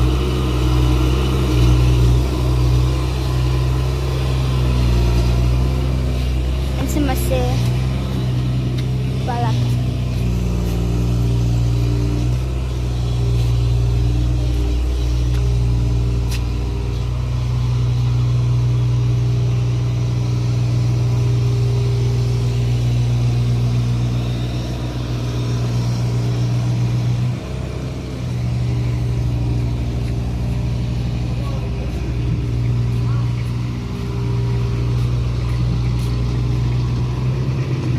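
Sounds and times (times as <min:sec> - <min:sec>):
diesel engine running under load: 0:00.0 - 0:37.9.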